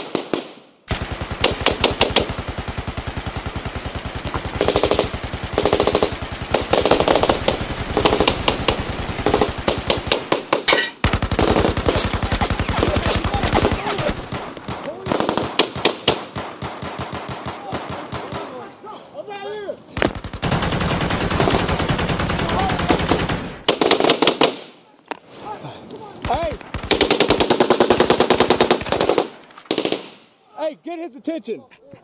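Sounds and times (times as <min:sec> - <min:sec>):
automatic machine-gun fire: 0:00.0 - 0:18.5, 0:20.0 - 0:24.6, 0:26.3 - 0:30.2
scattered gunshots: 0:00.0 - 0:18.7, 0:20.0 - 0:24.7, 0:26.2 - 0:30.2.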